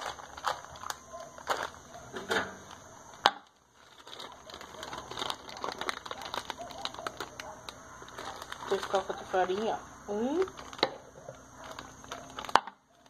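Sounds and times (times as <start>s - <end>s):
flour bag wrapping crinkling: 0.0s - 13.0s.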